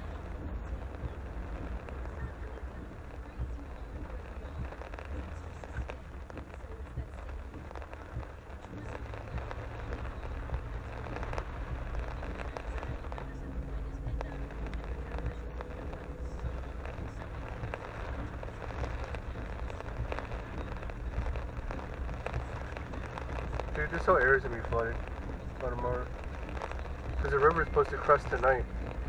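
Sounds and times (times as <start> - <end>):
car rolling on wet road: 0.0 - 29.0
rain hitting car roof: 0.0 - 29.0.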